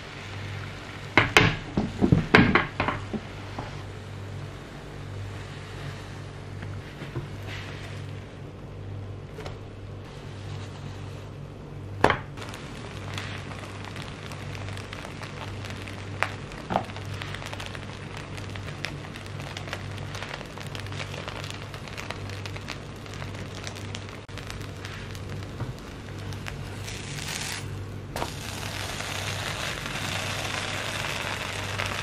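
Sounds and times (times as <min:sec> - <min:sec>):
bread sizzling in butter: 0:00.0 - 0:02.6, 0:03.2 - 0:08.3, 0:10.1 - 0:11.3, 0:12.4 - 0:32.0.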